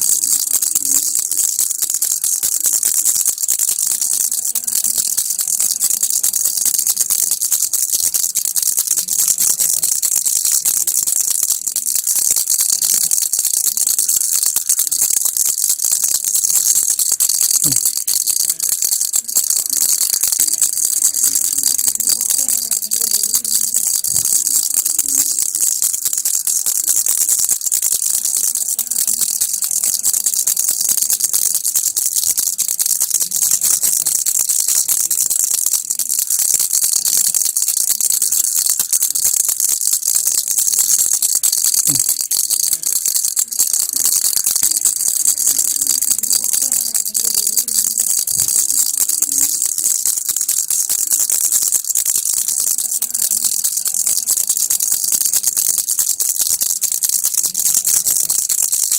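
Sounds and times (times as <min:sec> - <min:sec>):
baby rattle shaken: 0:00.0 - 0:58.9.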